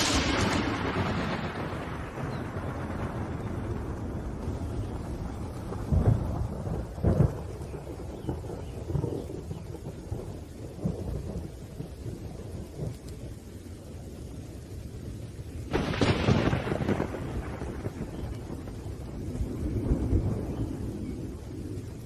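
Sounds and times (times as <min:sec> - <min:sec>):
steady rain: 0:00.0 - 0:22.0
thunder claps and rumbles: 0:00.0 - 0:22.0.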